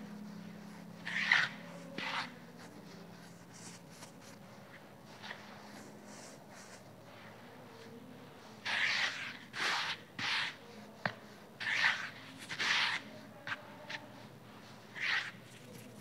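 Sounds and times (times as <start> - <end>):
fingers swishing through powder: 0.0 - 16.0.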